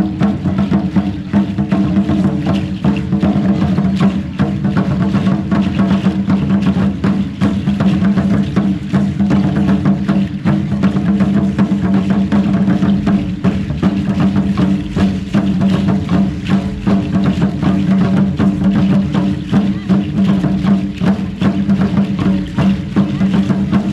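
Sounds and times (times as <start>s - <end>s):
fast percussion: 0.0s - 23.9s.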